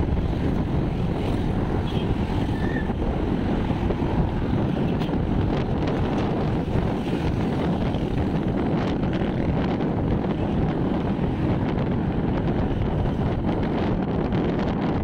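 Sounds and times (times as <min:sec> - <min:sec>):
road and traffic noise: 0:00.0 - 0:15.0
wind rushing over microphone: 0:00.0 - 0:15.0.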